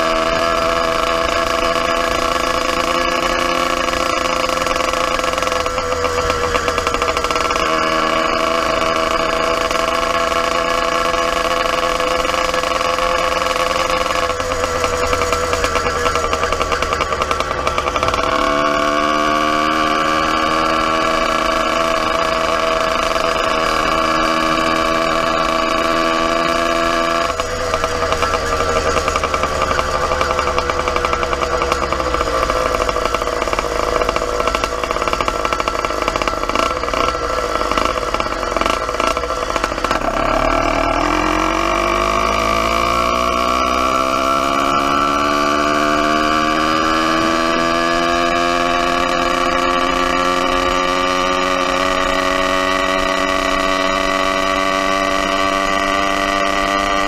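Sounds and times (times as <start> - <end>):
motorized bicycle engine running: 0.0 - 57.0.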